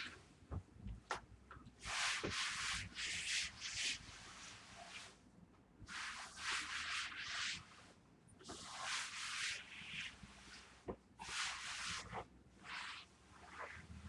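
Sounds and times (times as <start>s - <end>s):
cloth scrubbing laminate floor: 1.8s - 5.2s, 5.9s - 14.0s.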